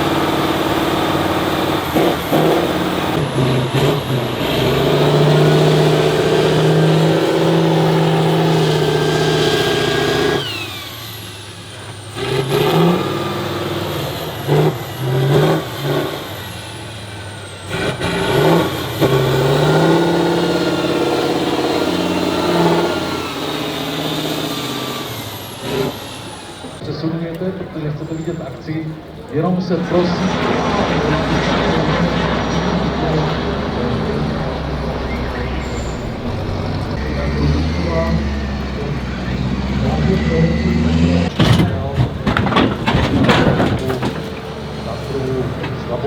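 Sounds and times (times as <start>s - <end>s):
truck engine revving: 0.0s - 46.0s.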